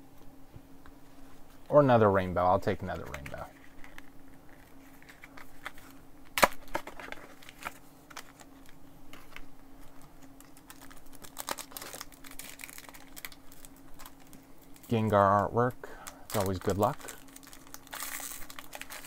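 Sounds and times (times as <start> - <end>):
faint steady hum: 0.0 - 19.0
cards and packaging clicking: 2.9 - 15.2, 16.0 - 19.0
packaging rustle: 2.9 - 15.2, 16.0 - 19.0.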